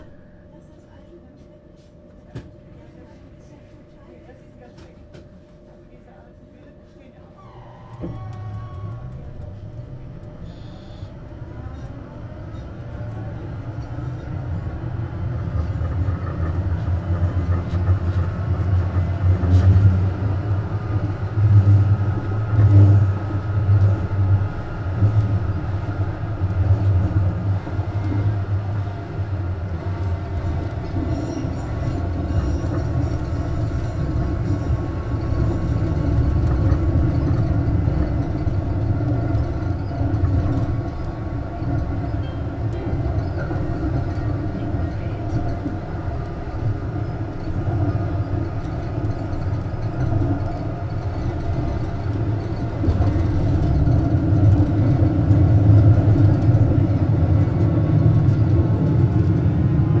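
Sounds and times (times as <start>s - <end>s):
tram wheels rumbling on rails: 2.2s - 60.0s.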